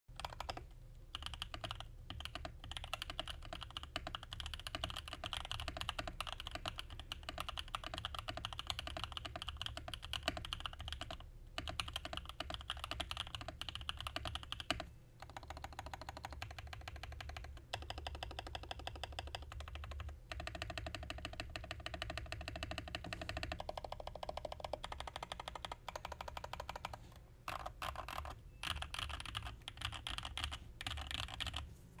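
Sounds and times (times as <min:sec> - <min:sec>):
mechanical keyboard typing: 0:00.2 - 0:31.6.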